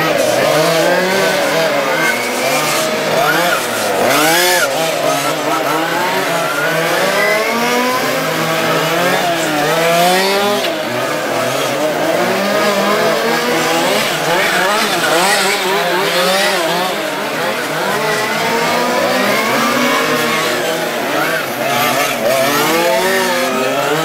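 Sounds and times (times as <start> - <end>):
small racing car engines revving: 0.0 - 24.0.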